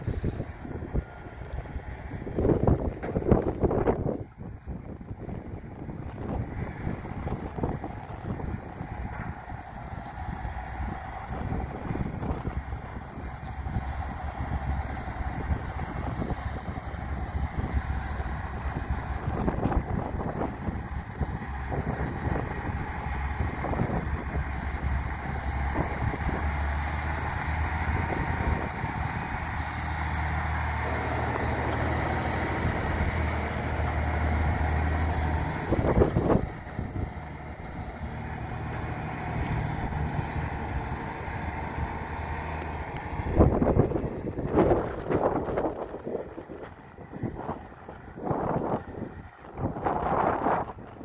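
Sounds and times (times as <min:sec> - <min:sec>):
truck diesel engine running: 0:00.0 - 0:51.0
wind buffeting microphone: 0:00.0 - 0:51.0.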